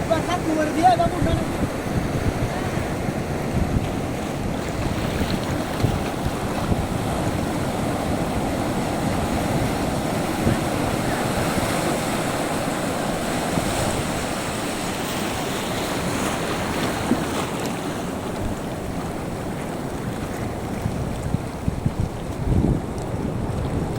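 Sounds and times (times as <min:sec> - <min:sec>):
waves breaking on beach: 0:00.0 - 0:23.9
wind noise on microphone: 0:00.0 - 0:23.9.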